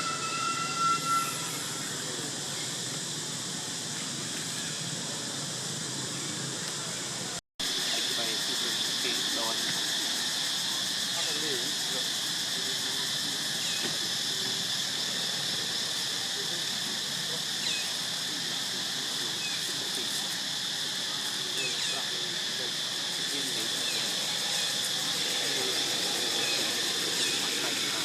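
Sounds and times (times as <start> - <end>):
high-pitched insect drone: 0.0 - 28.0.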